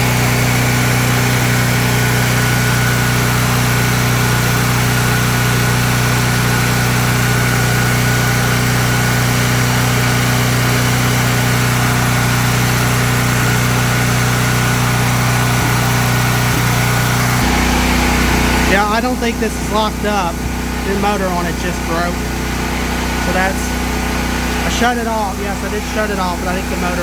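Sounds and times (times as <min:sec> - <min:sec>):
generator engine humming with whine: 0:00.0 - 0:27.0.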